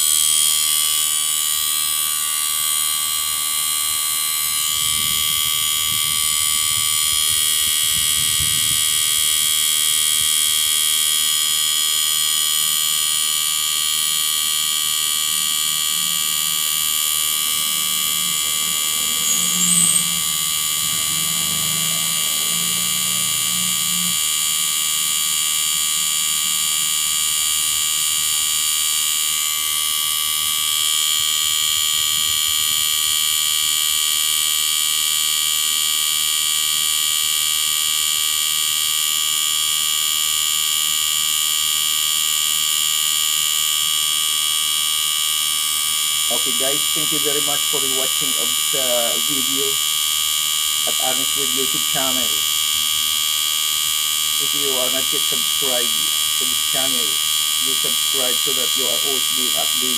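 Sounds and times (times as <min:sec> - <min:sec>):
air conditioner humming and whining: 0:00.0 - 0:34.8, 0:45.5 - 0:59.9.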